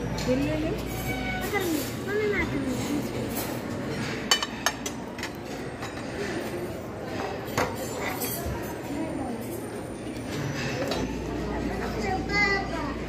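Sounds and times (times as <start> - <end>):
plates and tongs clinking: 0.0 - 11.4
murmur of voices: 0.0 - 13.0.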